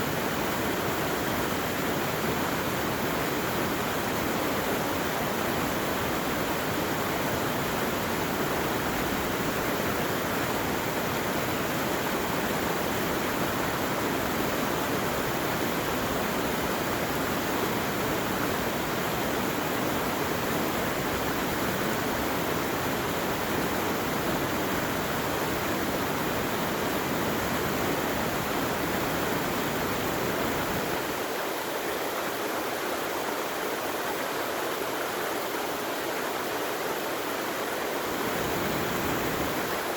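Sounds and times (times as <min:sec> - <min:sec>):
mountain stream rushing water: 0:00.0 - 0:39.9.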